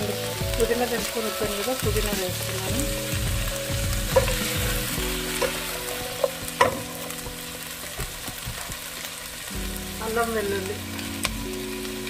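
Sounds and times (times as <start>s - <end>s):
stirring in pan: 0.0s - 9.8s
onions sizzling in oil: 0.0s - 12.0s.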